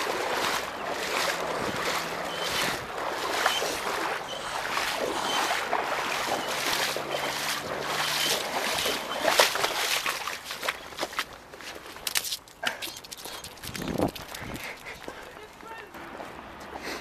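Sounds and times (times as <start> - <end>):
person wading through water: 0.0 - 17.0.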